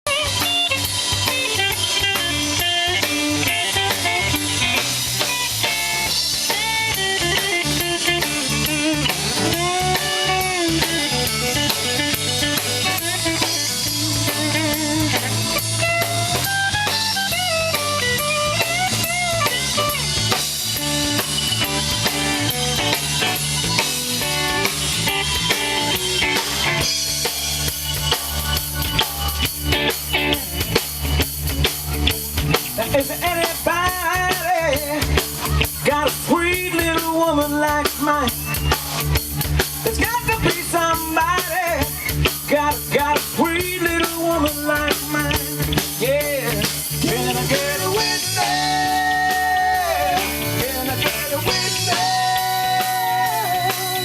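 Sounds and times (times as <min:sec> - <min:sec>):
drum kit beat: 0:00.0 - 0:54.0
guitar and bass: 0:00.0 - 0:54.0
bending guitar lead lines: 0:00.1 - 0:54.0.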